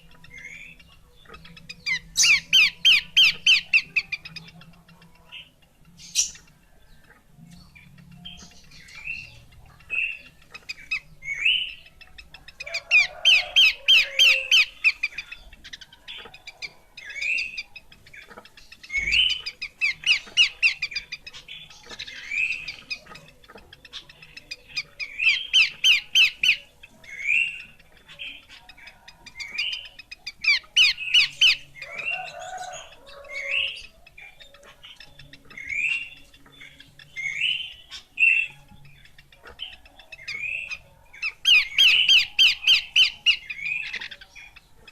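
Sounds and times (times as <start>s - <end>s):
bird chattering: 0.0s - 44.9s.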